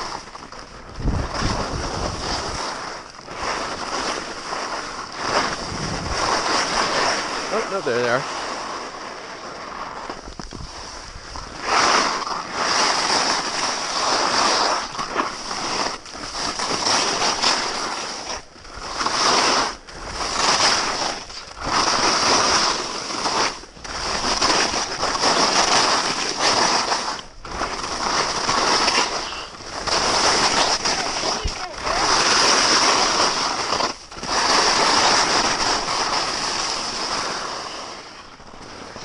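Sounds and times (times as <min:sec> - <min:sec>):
skis scraping on snow: 0:00.0 - 0:39.0.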